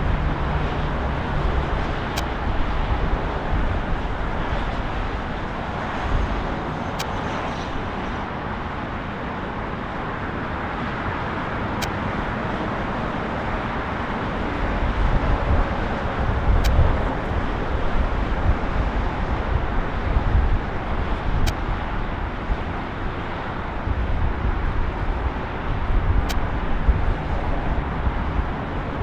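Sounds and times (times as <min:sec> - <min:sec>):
jet engines roaring: 0:00.0 - 0:29.0
low gusty rumble: 0:00.0 - 0:29.0.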